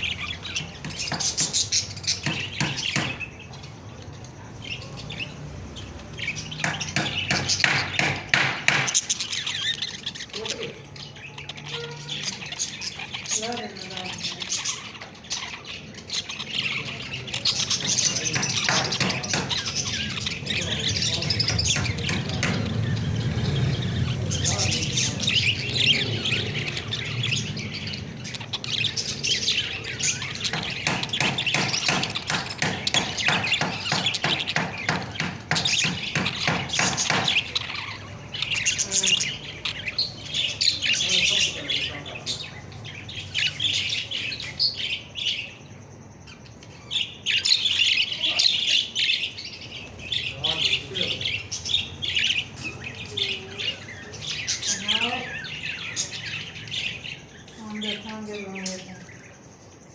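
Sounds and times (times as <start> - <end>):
parrots chirping and squawking: 0.0 - 59.9.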